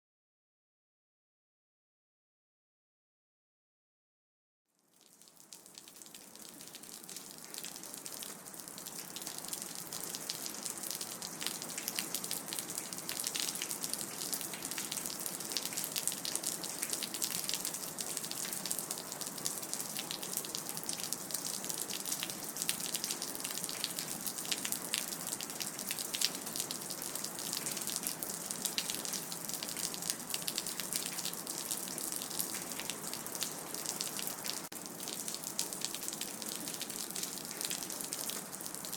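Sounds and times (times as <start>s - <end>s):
rain dripping: 4.8s - 38.9s.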